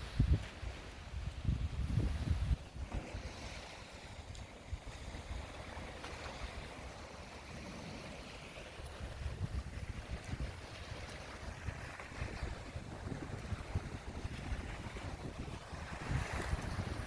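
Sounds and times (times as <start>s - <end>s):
wind buffeting microphone: 0.0s - 3.6s, 4.2s - 17.0s
outdoor rush of wind: 0.0s - 17.0s.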